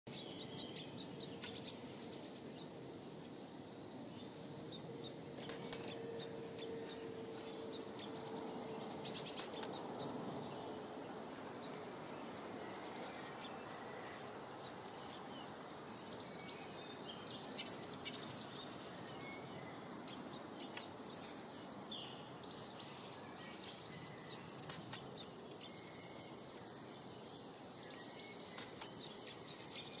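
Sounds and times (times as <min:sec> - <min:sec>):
songbirds chirping: 0:00.1 - 0:30.0.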